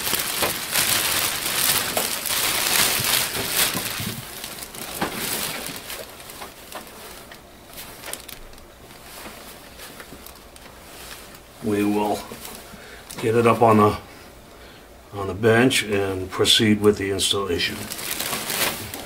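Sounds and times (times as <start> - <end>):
plastic bag crinkling: 0.0 - 13.9, 17.5 - 19.0.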